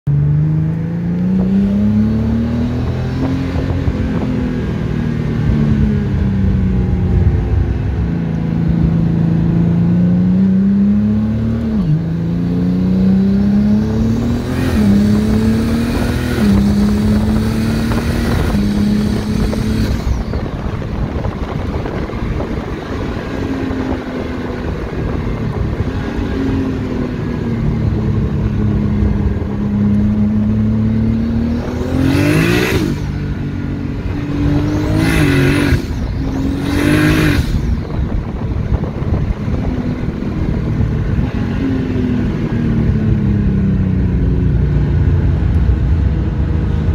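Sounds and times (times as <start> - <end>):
car engine revving through gears: 0.1 - 43.2.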